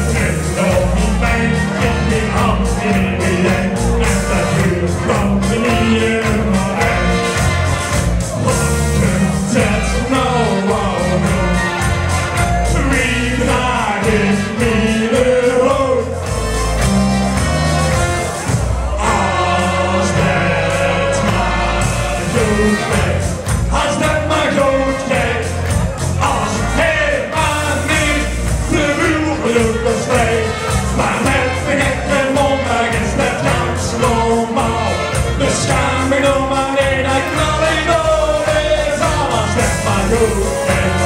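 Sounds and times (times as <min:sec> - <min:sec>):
men singing into microphones: 0:00.0 - 0:07.7, 0:08.3 - 0:16.3, 0:18.9 - 0:41.0
group singing along: 0:00.0 - 0:16.3, 0:18.0 - 0:41.0
music with steady beat: 0:00.0 - 0:41.0.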